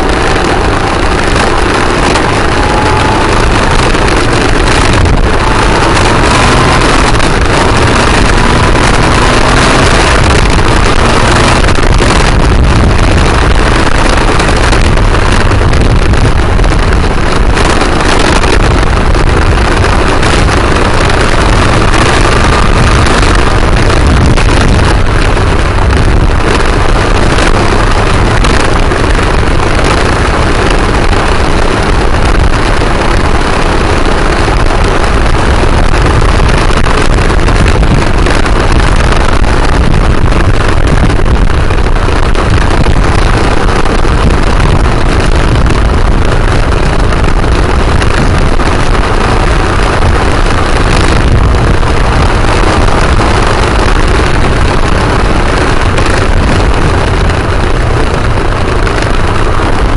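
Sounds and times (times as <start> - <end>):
motorcycle engine accelerating: 0.0 - 59.9
wind rushing over microphone: 0.0 - 59.9.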